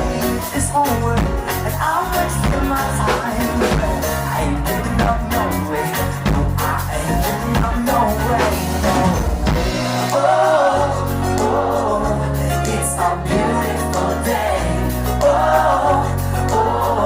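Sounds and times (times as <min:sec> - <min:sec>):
sung song over bass: 0:00.0 - 0:17.0.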